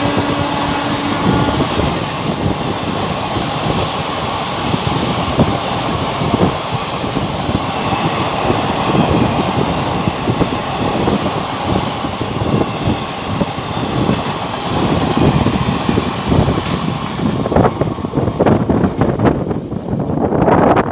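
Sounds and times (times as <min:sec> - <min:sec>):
rumble of wheels on rails: 0:00.0 - 0:20.9.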